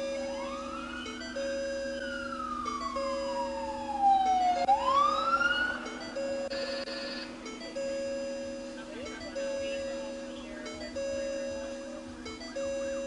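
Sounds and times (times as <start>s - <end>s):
long electronic beeps: 0.0s - 13.0s
police siren wailing: 0.0s - 13.0s.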